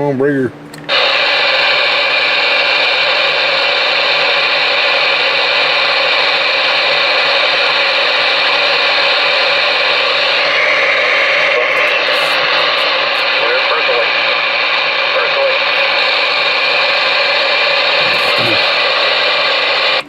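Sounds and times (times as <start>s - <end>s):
radio static hiss: 0.9s - 20.0s.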